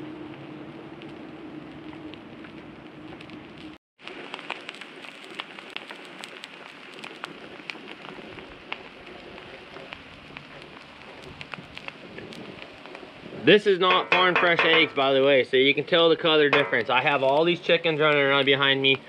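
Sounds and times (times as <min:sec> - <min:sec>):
omelet sizzling on a griddle: 0:00.0 - 0:19.0.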